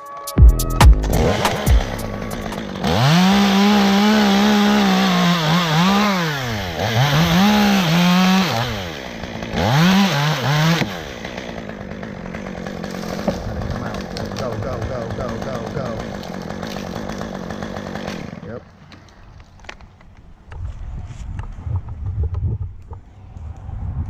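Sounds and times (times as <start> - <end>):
chainsaw cutting wood: 0.8 - 20.3.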